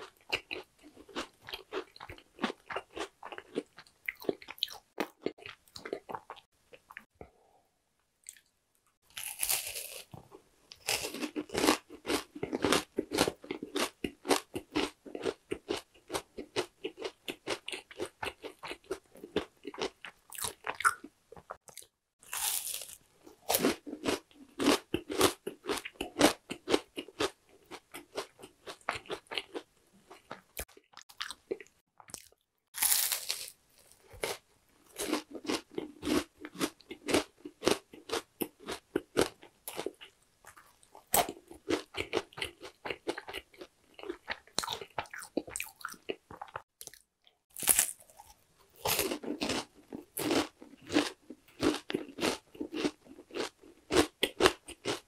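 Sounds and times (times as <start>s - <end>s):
crunchy bar bitten and chewed: 0.0s - 6.4s, 9.1s - 55.0s.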